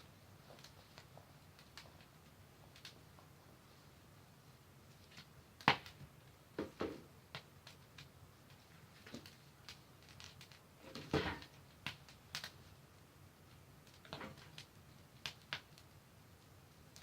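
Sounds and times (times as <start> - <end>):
campfire crackling: 0.0 - 17.0
faint steady background noise: 0.0 - 17.0.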